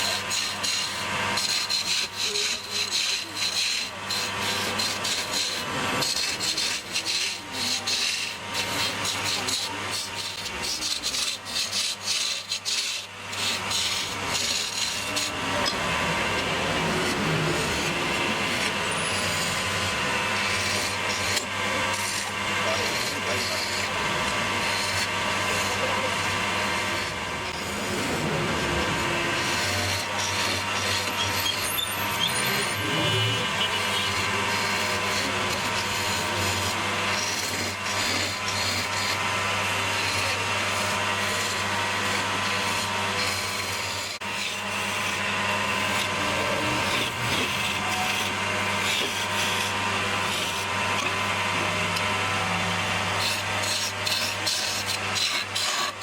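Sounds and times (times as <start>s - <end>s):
tool scraping spinning wood: 0.0s - 56.0s
wood lathe motor humming: 0.0s - 56.0s.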